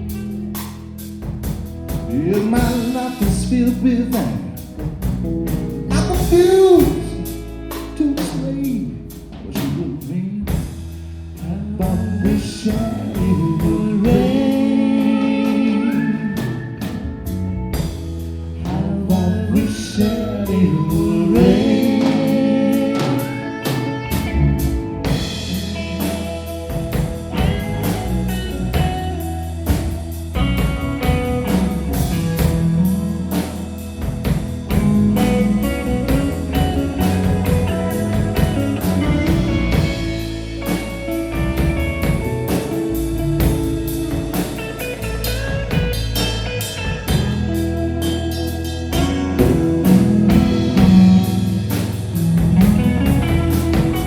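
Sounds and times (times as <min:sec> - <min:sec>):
bass guitar: 0:00.0 - 0:54.0
drum kit beat: 0:00.0 - 0:54.0
lead guitar: 0:00.0 - 0:54.0.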